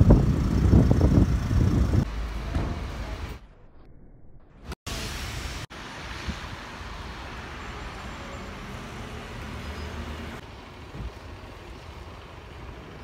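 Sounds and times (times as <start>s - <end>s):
road traffic: 0.0s - 3.7s, 4.5s - 13.0s.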